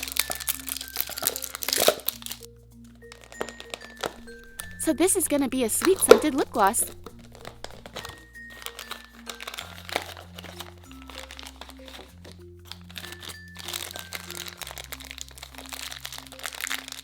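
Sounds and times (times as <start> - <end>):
background music: 0.0 - 17.0
toy packaging crinkling: 0.0 - 17.0.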